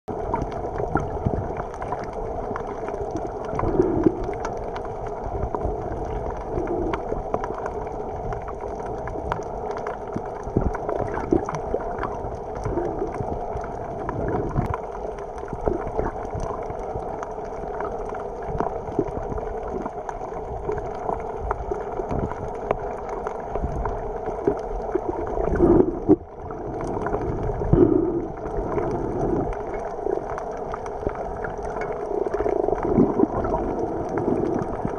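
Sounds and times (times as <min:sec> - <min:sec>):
muffled underwater rush: 0:00.1 - 0:34.9
water gurgling: 0:00.1 - 0:34.9.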